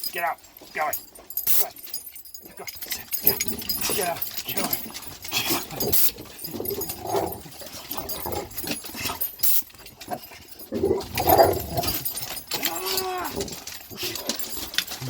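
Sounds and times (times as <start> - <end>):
dogs whining excitedly: 1.9 - 15.0.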